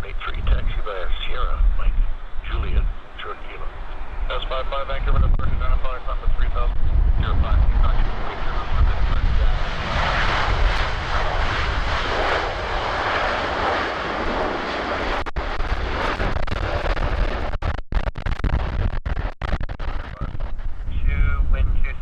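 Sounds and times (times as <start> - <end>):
jet engine rushing: 0.0 - 22.0
wind rumble on microphone: 0.0 - 22.0.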